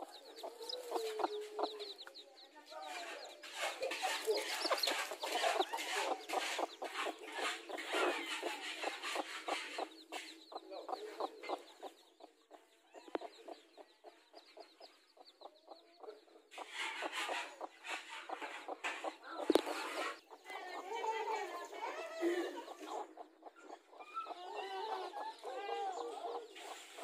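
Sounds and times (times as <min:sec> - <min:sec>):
chicks peeping: 0:00.0 - 0:27.0
hen clucking: 0:00.0 - 0:27.0.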